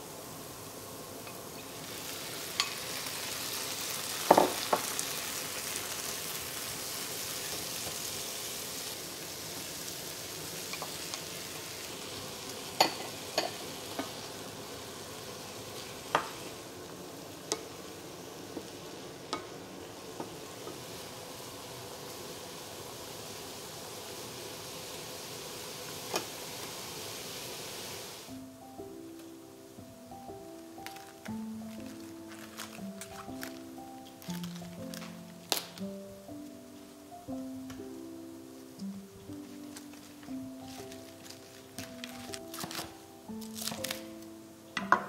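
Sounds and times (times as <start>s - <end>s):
vegetables sizzling in a frying pan: 0.0s - 45.0s.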